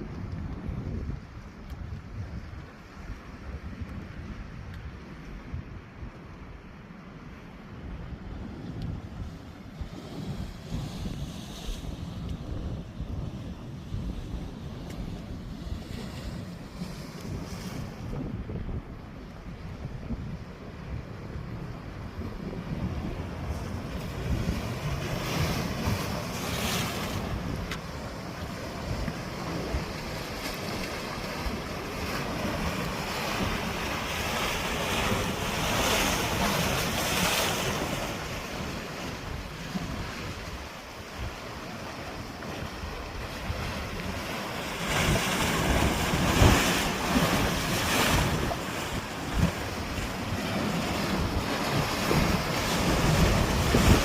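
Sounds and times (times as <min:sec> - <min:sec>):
wind buffeting the microphone: 0:00.0 - 0:54.0
sea waves washing onto shore: 0:08.1 - 0:54.0.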